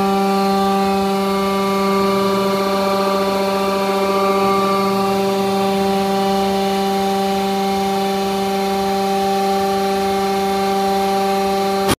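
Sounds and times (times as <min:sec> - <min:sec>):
hydraulic pump motor hum: 0:00.0 - 0:12.0.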